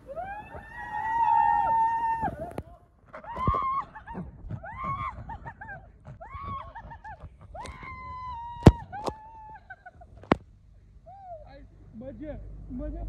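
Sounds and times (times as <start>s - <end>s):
people yelling and whooping: 0.0s - 10.3s, 11.0s - 11.7s.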